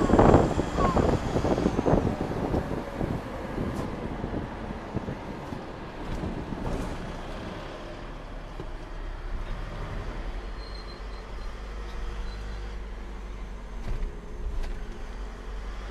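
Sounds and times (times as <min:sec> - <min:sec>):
car engine and road rumble: 0:00.0 - 0:15.9.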